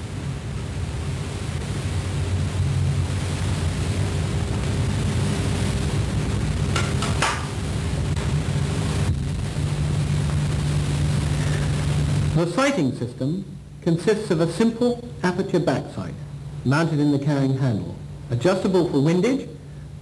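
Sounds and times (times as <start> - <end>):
low electrical hum: 0.0 - 20.0
videotape hiss: 0.0 - 20.0.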